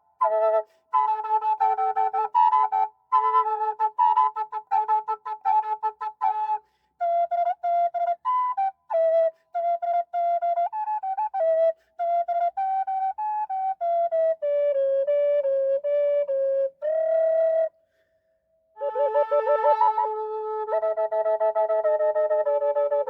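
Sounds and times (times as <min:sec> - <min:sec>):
flute drone: 0:00.0 - 0:14.4, 0:18.8 - 0:23.0
flute melody: 0:00.0 - 0:17.8, 0:18.8 - 0:23.0.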